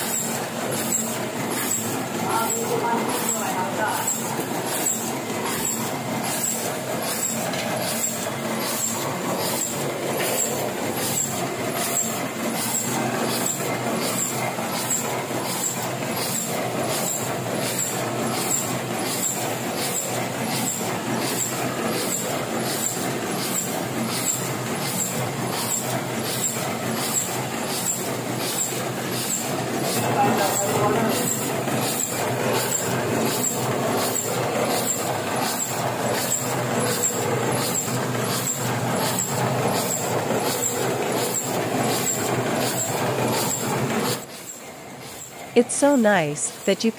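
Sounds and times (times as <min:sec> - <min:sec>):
printing press clattering: 0:00.0 - 0:46.6.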